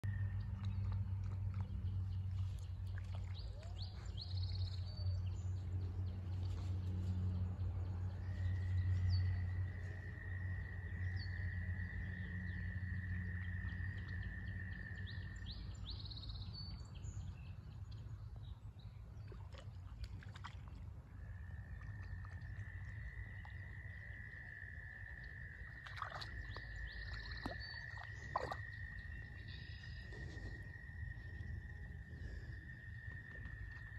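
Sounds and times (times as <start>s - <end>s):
low steady rumble: 0.0s - 33.9s.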